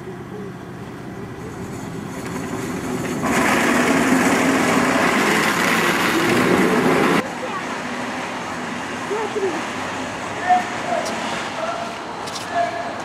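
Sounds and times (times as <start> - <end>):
tram rattling past: 0.6 - 11.8.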